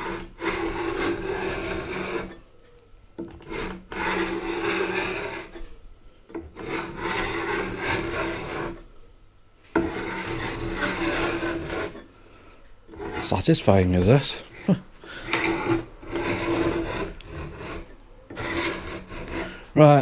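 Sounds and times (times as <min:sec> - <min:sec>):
rubbing and scraping on wood: 0:00.0 - 0:02.4, 0:03.2 - 0:05.8, 0:06.4 - 0:08.9, 0:09.7 - 0:12.1, 0:12.9 - 0:20.0.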